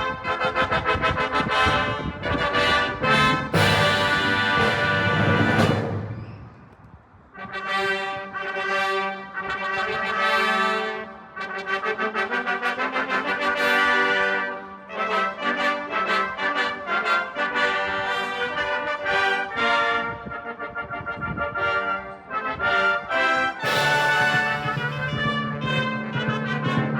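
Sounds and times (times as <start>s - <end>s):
brass ensemble playing a fanfare: 0.0s - 6.1s, 7.4s - 26.9s.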